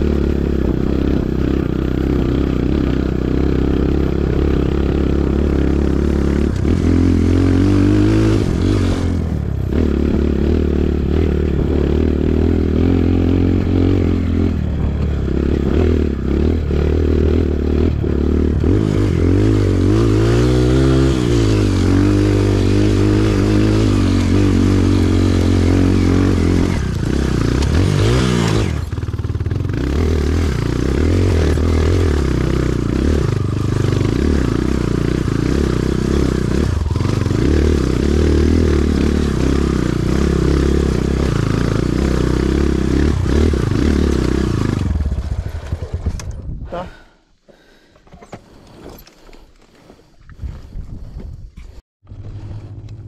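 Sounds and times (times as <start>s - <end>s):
dirt bike engine revving: 0.0s - 46.3s.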